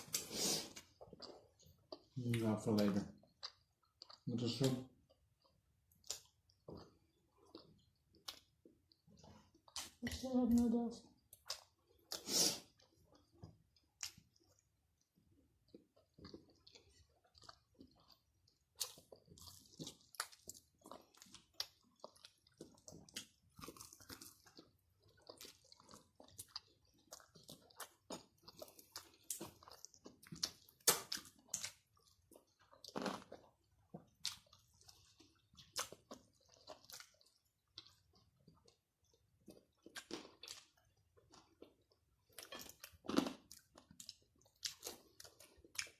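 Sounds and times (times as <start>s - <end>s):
person chewing crunchy food: 0.0s - 10.2s, 11.2s - 45.9s.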